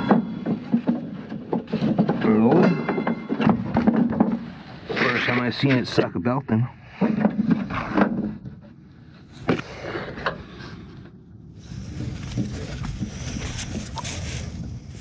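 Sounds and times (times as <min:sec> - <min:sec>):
knocks and metal scrapes: 0:00.0 - 0:15.0.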